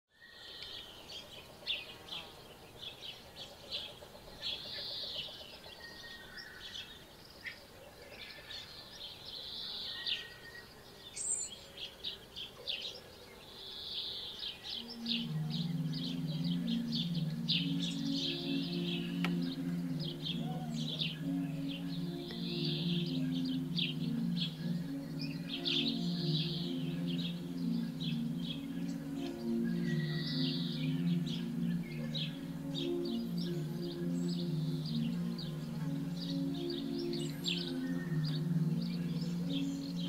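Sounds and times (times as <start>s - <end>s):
birds chirping: 0.1s - 40.0s
low sustained music chord: 0.2s - 7.2s, 8.0s - 40.0s.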